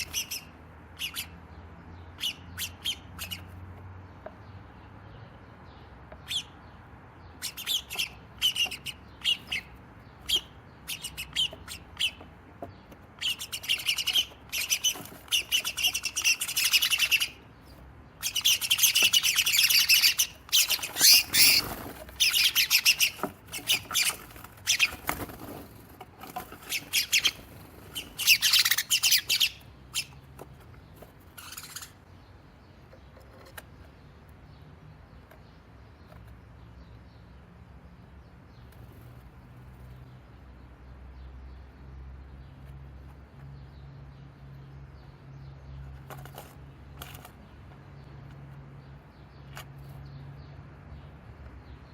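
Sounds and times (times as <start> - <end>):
sparrows chirping and chattering: 0.0 - 51.9.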